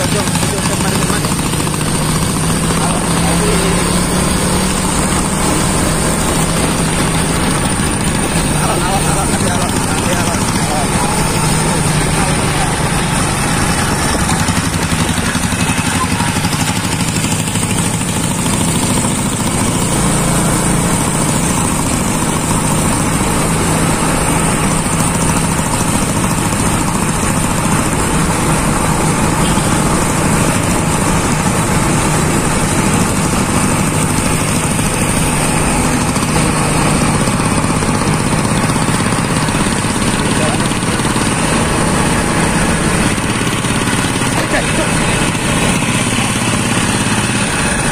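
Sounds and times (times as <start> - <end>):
motorcycle diesel engine running: 0.0 - 47.9
road and wind noise: 0.0 - 47.9.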